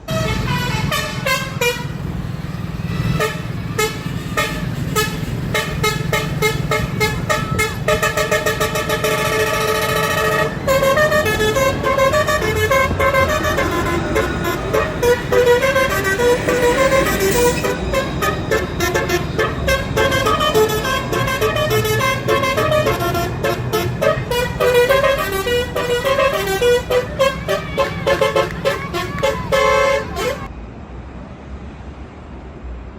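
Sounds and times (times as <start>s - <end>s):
low rumble of tram: 0.0s - 32.9s
horn-like toots and electronic tones: 2.9s - 30.5s.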